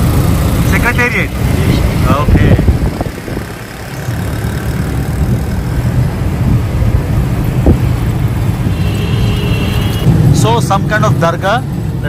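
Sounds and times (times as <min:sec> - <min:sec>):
road and traffic rumble: 0:00.0 - 0:12.0.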